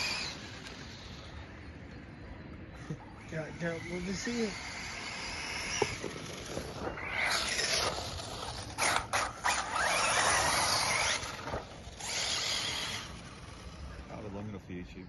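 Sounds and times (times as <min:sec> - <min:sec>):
remote-control car motor whining: 0:00.0 - 0:01.6, 0:03.2 - 0:14.3.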